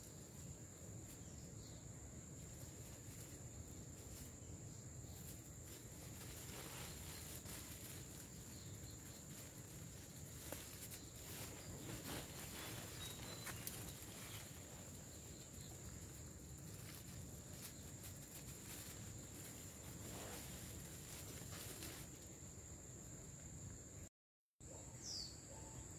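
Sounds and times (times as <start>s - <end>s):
insects droning: 0.0s - 24.1s.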